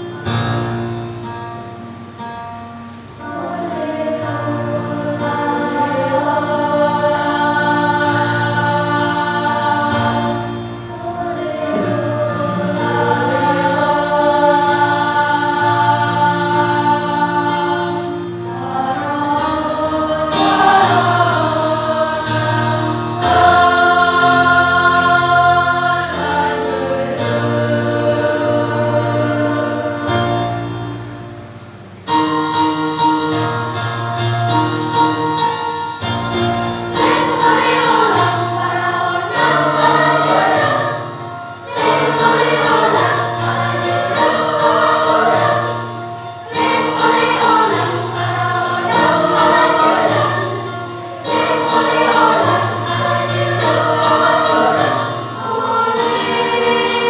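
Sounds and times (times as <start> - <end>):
choir singing in harmony: 0.0 - 1.4, 2.8 - 57.0.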